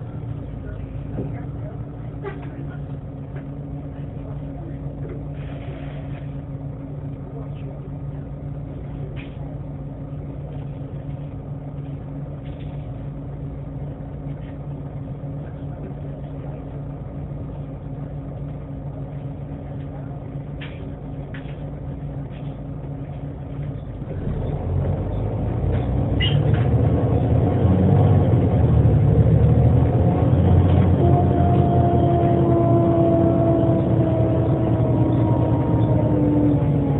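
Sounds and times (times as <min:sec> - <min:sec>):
bus engine: 0:00.0 - 0:36.9.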